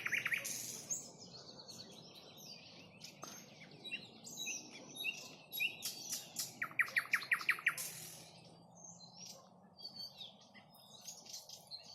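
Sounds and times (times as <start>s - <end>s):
nightingale singing: 0.0s - 11.9s.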